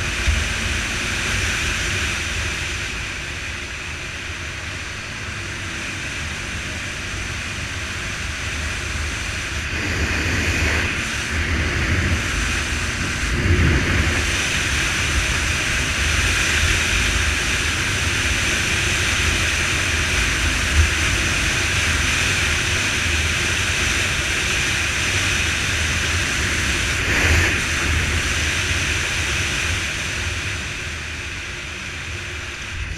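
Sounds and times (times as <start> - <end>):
motorcycle engines running: 0.0 - 32.9.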